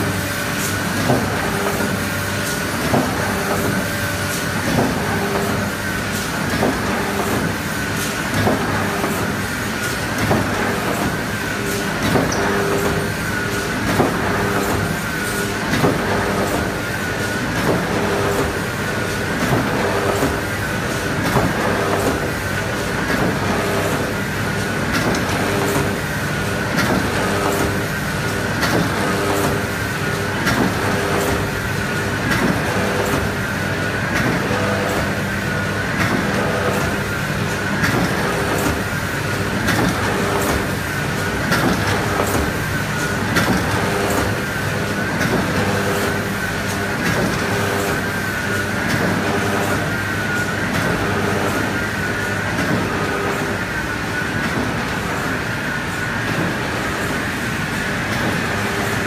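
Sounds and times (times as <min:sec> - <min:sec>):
printing press mechanical clatter: 0:00.0 - 0:59.0.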